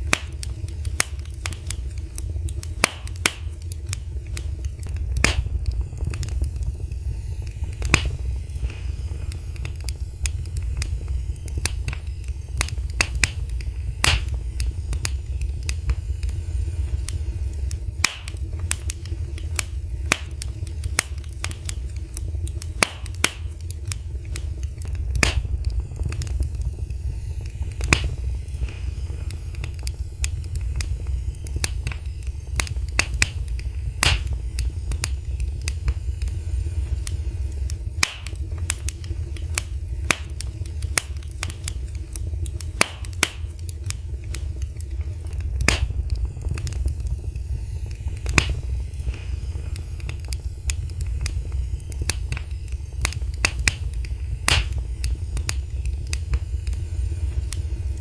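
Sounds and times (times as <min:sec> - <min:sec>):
fireplace fire crackling: 0:00.0 - 0:58.0
low rumble of flames: 0:00.0 - 0:58.0.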